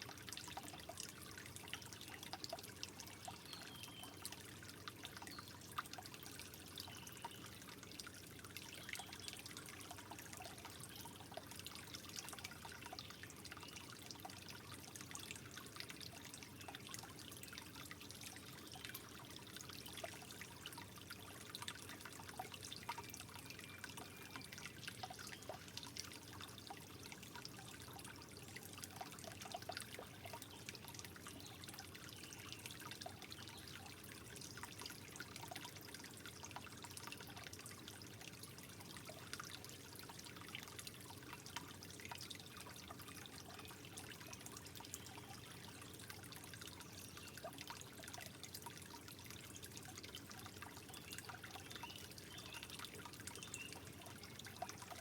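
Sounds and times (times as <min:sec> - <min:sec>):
water trickling and dripping: 0:00.0 - 0:55.0.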